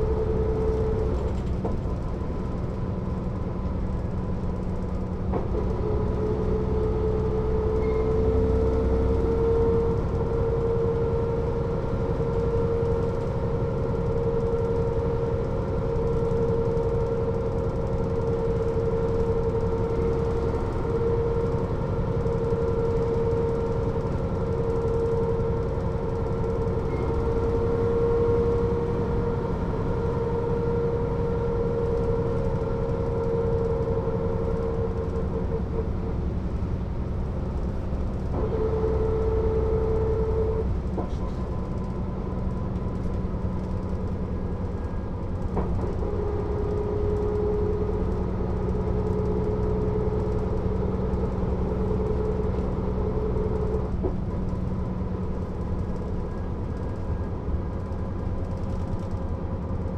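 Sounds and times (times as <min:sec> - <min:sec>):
bus diesel engine and road rumble: 0:00.0 - 0:59.9
high drivetrain whine: 0:00.0 - 0:59.9.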